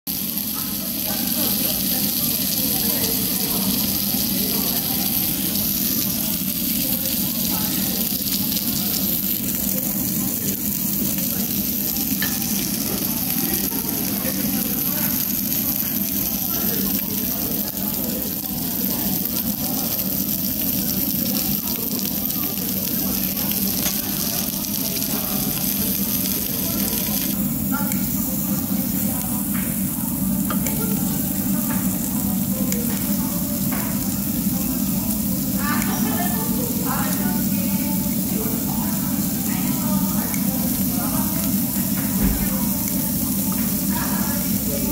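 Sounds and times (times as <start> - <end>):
pork sizzling on a grill plate: 0.1 - 44.9.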